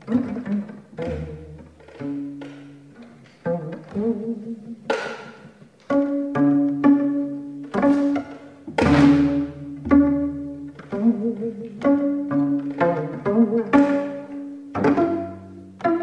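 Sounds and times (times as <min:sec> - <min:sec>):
sharp plucked strokes: 0:00.0 - 0:16.0
slow string music: 0:00.0 - 0:16.0.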